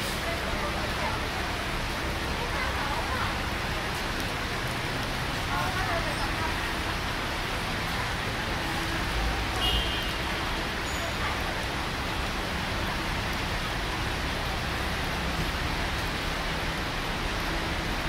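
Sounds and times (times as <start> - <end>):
traffic wading through flooded street: 0.0 - 18.0.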